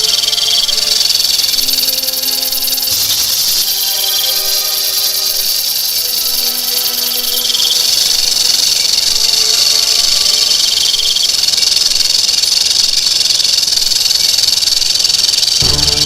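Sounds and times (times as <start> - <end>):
rattlesnake tail rattle buzzing: 0.0 - 16.0.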